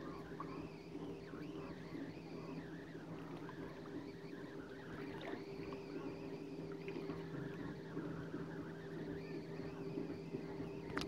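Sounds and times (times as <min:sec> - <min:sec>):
faint wavering chirping: 0:00.0 - 0:11.0
low motor hum: 0:00.0 - 0:11.0.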